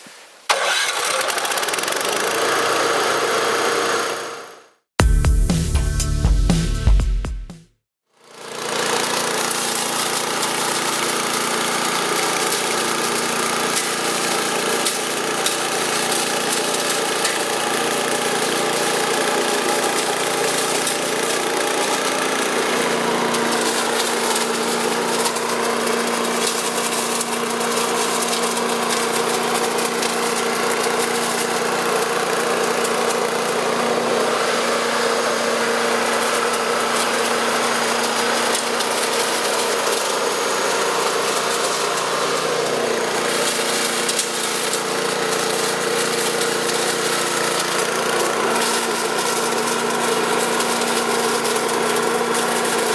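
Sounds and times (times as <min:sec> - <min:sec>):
leaf vacuum petrol engine running: 0:00.5 - 0:04.5, 0:08.2 - 0:52.9.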